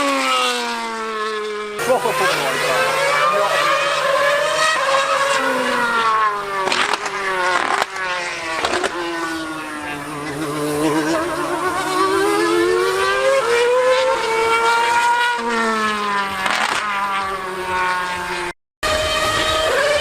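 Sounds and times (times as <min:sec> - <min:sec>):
lower engine note: 0:00.0 - 0:20.0
racing engines screaming: 0:00.0 - 0:20.0.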